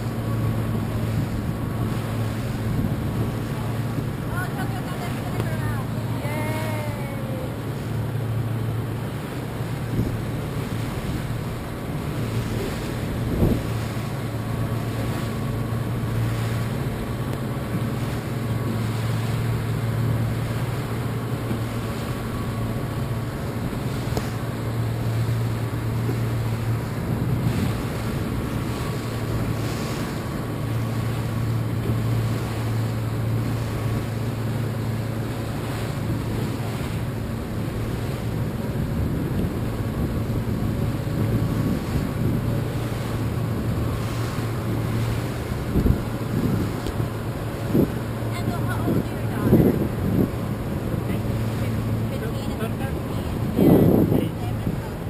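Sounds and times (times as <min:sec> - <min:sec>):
boat engine humming: 0:00.0 - 0:55.0
choppy water splashing: 0:00.0 - 0:55.0
wind on microphone: 0:00.0 - 0:55.0.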